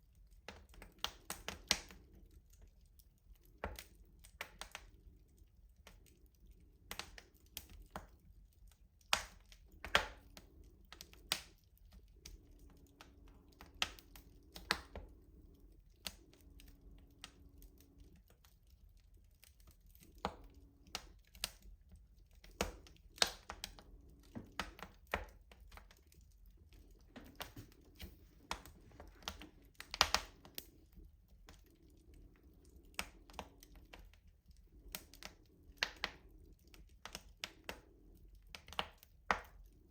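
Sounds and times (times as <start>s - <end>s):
faint low background: 0.0s - 39.9s
wood fire crackling: 0.0s - 39.9s.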